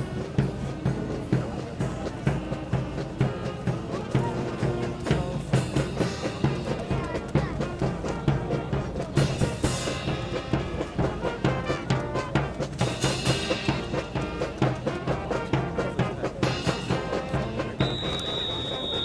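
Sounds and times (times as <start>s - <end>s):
music with driving drum beat: 0.0s - 19.0s.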